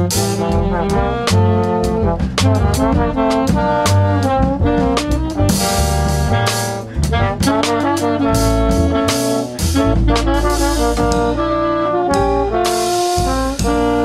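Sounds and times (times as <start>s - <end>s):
double bass: 0.0s - 14.0s
drum kit: 0.0s - 14.0s
saxophone: 0.0s - 14.0s
trombone: 0.0s - 14.0s.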